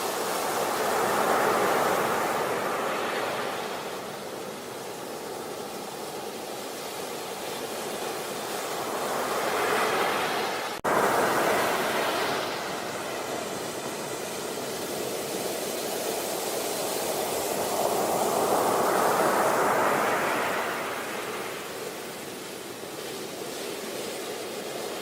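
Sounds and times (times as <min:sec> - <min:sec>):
sea waves breaking on beach: 0:00.0 - 0:25.0.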